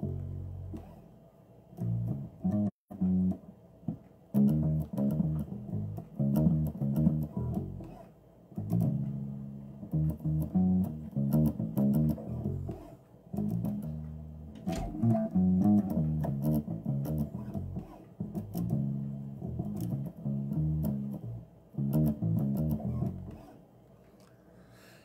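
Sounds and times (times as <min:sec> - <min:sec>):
electric bass guitar plucked: 0:00.0 - 0:01.0, 0:01.8 - 0:08.0, 0:08.6 - 0:23.4.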